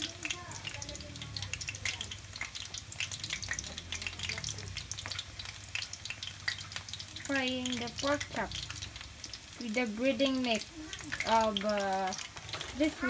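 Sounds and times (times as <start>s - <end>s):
pork chops frying in oil: 0.0s - 13.0s.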